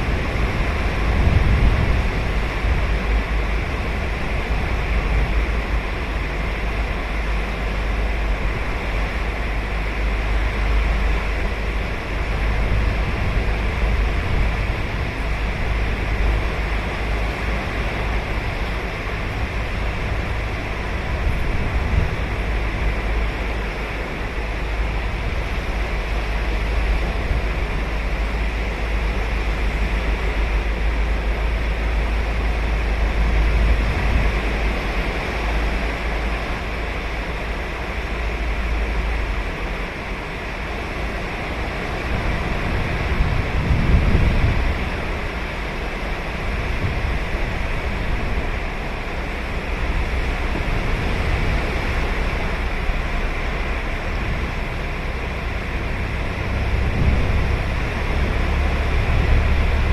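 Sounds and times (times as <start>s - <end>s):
low rumble: 0.0s - 59.9s
ocean waves breaking: 0.0s - 59.9s.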